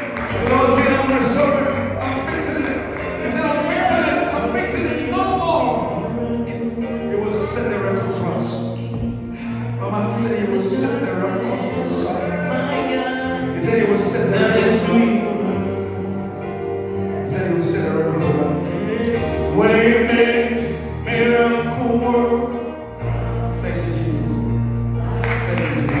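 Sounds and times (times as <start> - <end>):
band accompaniment: 0.0 - 26.0
voices singing gospel: 0.0 - 26.0.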